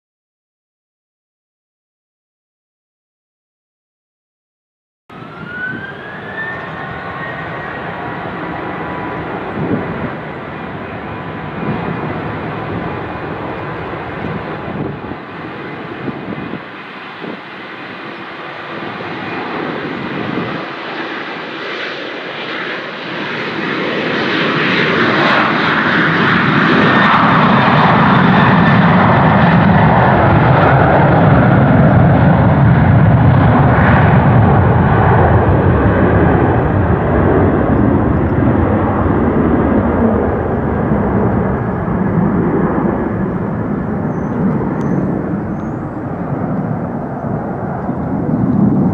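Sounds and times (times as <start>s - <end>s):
jet engines throttling up: 5.1s - 48.9s
jet engines whining: 5.1s - 48.9s.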